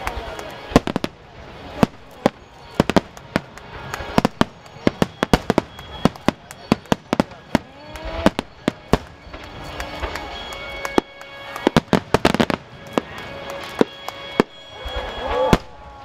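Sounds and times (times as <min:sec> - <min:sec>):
fireworks bangs: 0:00.0 - 0:16.0
music: 0:00.0 - 0:16.0.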